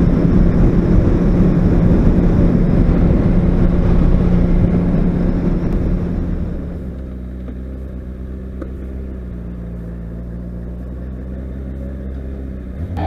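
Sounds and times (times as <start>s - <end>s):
rush of riding wind: 0.0s - 13.0s.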